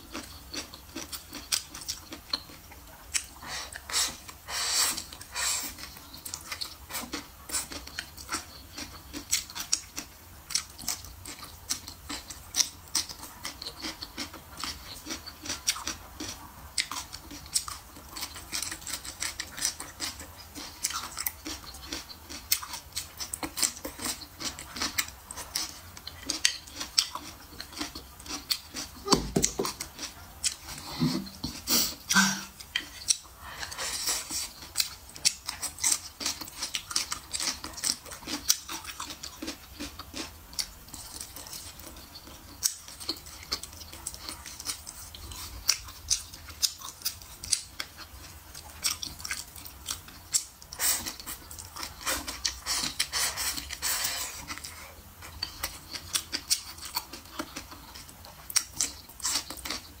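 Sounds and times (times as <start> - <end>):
person chewing meat: 0.0 - 60.0.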